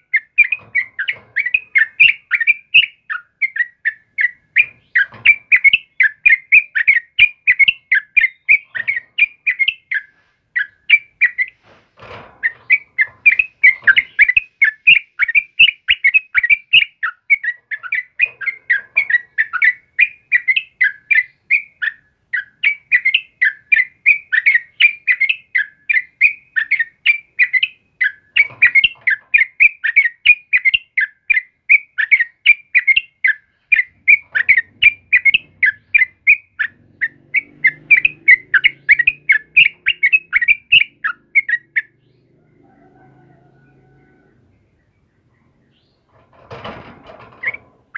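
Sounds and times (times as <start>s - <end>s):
bird singing chirpy notes: 0.0s - 11.6s, 12.4s - 46.7s.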